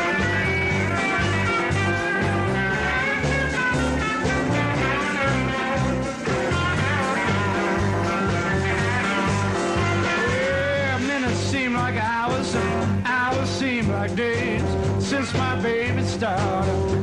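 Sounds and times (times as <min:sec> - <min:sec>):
blues-rock band music: 0:00.0 - 0:17.0.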